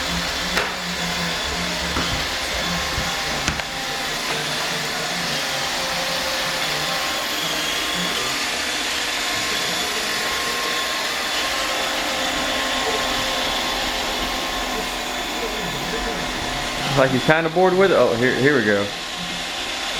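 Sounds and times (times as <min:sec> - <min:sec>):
robot vacuum whirring: 0:00.0 - 0:19.9.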